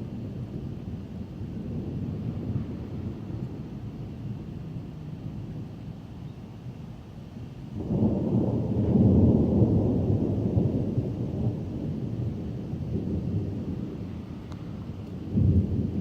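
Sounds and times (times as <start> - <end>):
rolling thunder: 0.0 - 6.2, 7.4 - 16.0.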